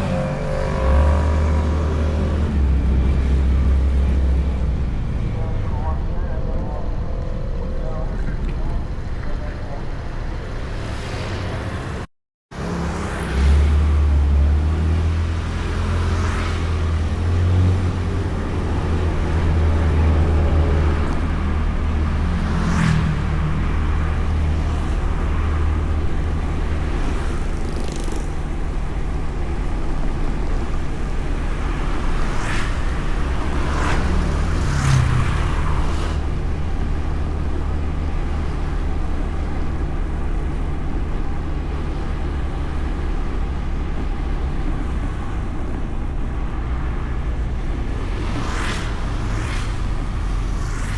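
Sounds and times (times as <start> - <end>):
scooter engine and road hum: 0.0 - 50.9
vehicles passing: 0.0 - 50.9.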